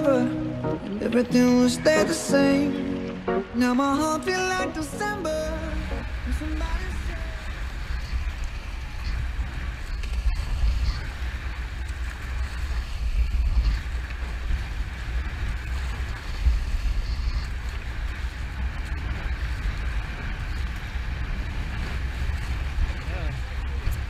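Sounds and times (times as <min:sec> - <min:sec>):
water splashing along hulls: 0:00.0 - 0:24.0
wind buffeting microphone: 0:00.8 - 0:24.0.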